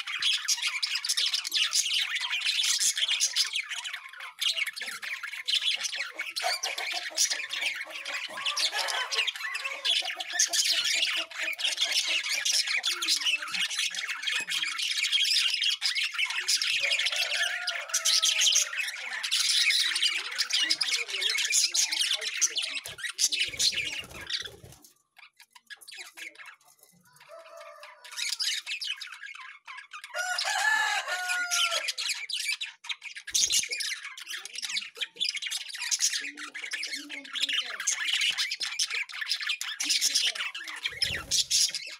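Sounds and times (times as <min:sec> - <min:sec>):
parrots chattering and squawking: 0:00.0 - 0:41.9.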